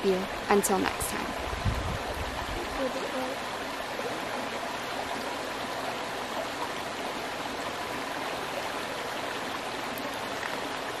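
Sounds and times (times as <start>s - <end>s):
creek running over rocks: 0.0s - 11.0s.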